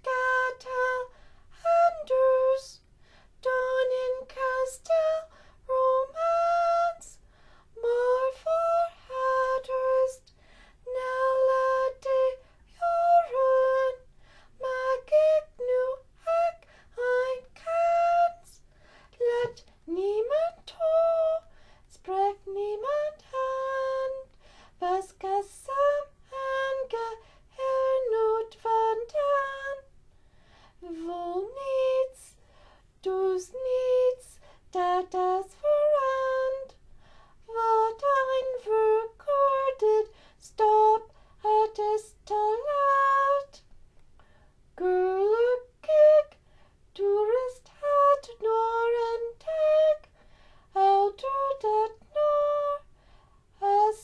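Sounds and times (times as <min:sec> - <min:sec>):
woman singing unaccompanied: 0:00.0 - 0:29.9, 0:30.8 - 0:32.4, 0:33.0 - 0:36.8, 0:37.4 - 0:43.7, 0:44.8 - 0:54.0.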